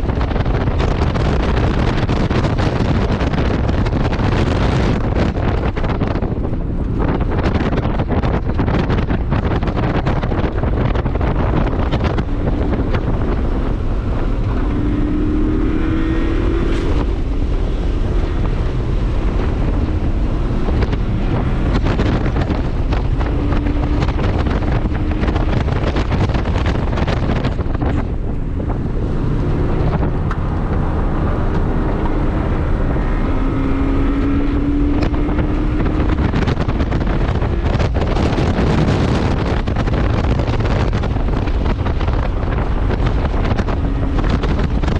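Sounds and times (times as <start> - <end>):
car engine accelerating: 0.0 - 44.9
wind buffeting microphone: 0.0 - 44.9.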